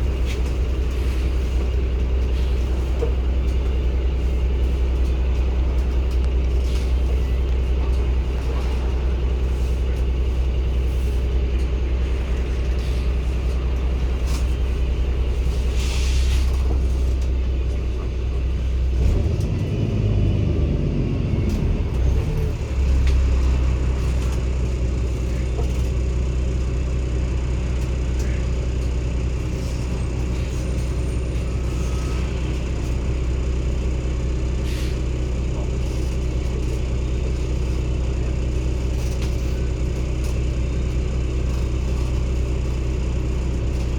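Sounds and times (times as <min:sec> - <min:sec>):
bus diesel engine droning: 0:00.0 - 0:43.9.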